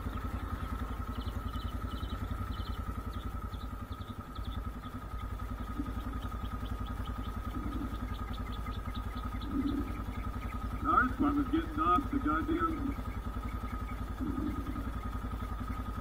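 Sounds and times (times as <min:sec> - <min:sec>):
birds chirping: 0:00.0 - 0:16.0
vehicle engine idling: 0:00.0 - 0:16.0.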